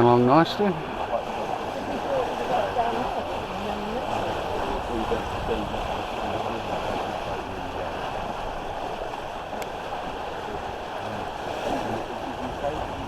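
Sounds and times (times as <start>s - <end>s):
water rushing along hull: 0.0s - 13.0s
wind: 0.0s - 13.0s.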